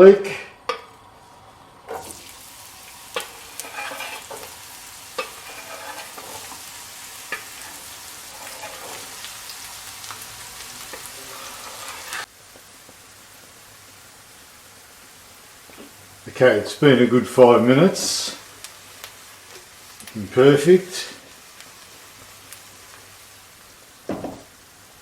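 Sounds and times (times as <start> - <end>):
onion and garlic sizzling in oil: 0.0 - 25.0.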